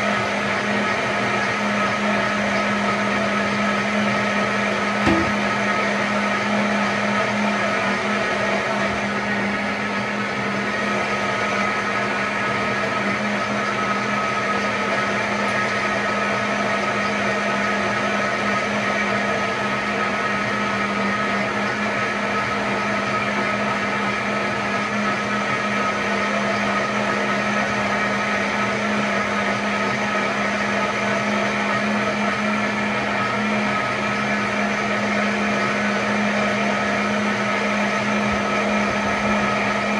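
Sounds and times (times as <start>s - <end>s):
blender motor whine: 0.0s - 39.9s.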